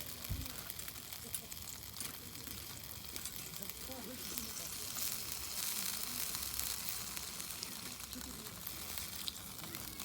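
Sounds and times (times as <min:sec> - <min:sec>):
food sizzling: 0:00.0 - 0:10.0.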